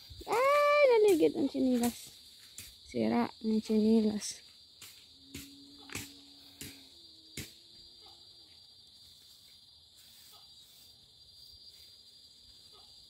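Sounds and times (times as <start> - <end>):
insects droning in trees: 0.0 - 13.0.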